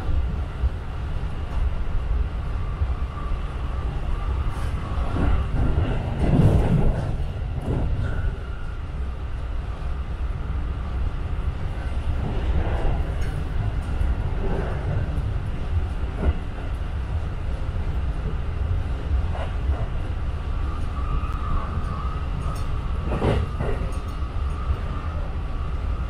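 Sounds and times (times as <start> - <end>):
passing train rushing: 0.0 - 26.0
train wheels rumbling on rails: 0.0 - 26.0.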